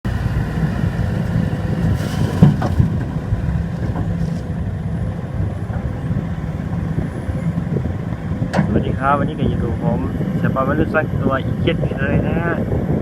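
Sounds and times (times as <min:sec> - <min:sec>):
heavy diesel engines rumbling: 0:00.0 - 0:13.0.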